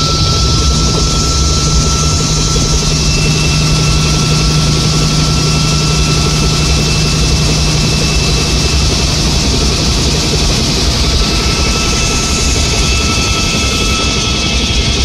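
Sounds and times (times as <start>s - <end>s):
helicopter engine and rotor drone: 0.0s - 15.0s
thin high whine: 0.0s - 15.0s.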